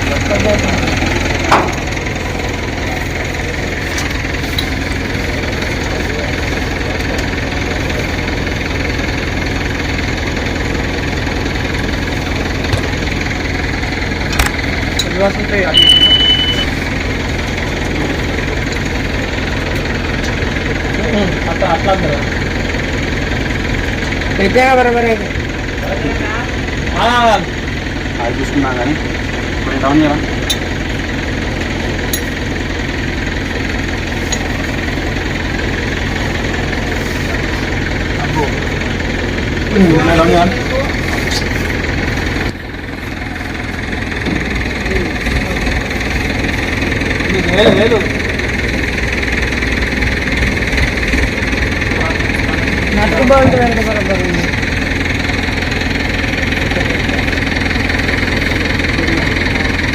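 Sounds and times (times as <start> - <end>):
heavy machine engine idling: 0.0 - 59.9.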